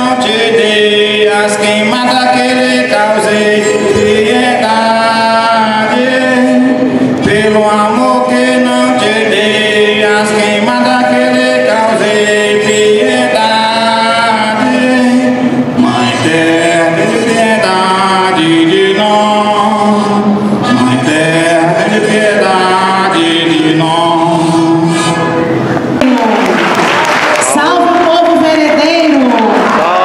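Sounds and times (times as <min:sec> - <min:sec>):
man singing folk song: 0:00.0 - 0:25.4.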